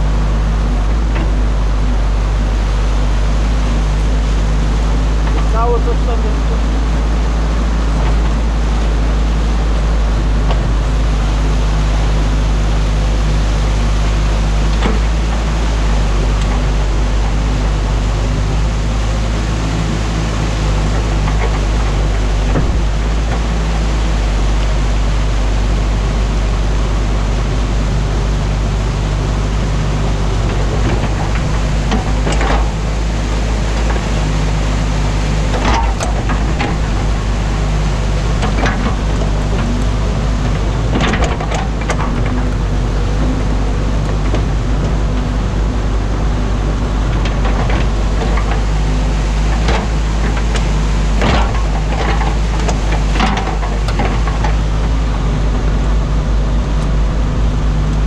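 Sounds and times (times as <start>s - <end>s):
diesel engine humming: 0.0s - 58.0s
water rushing in a torrent: 0.0s - 58.0s.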